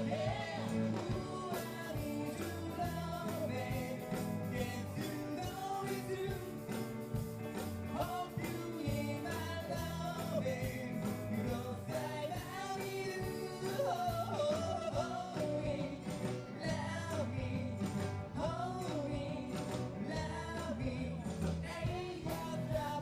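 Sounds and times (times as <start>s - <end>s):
lead singer singing: 0.0s - 23.0s
live rock band playing: 0.0s - 23.0s
steady drum beat: 0.0s - 23.0s.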